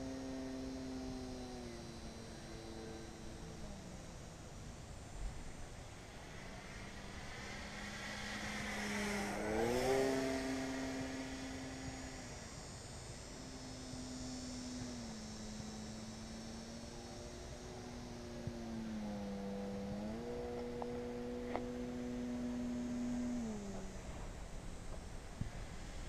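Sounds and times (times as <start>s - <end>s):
low wind rumble on microphone: 0.0s - 26.0s
rc plane motor droning overhead: 0.0s - 26.0s.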